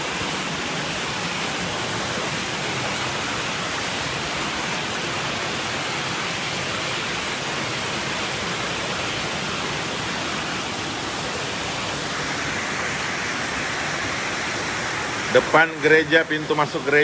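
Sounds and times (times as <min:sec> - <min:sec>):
heavy rain: 0:00.0 - 0:17.0
rushing floodwater: 0:00.0 - 0:17.0.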